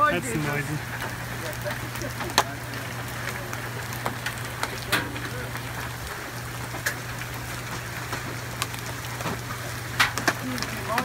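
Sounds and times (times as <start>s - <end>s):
hailstones cracking on hard surfaces: 0.0s - 11.0s
hiss of falling hail: 0.0s - 11.0s.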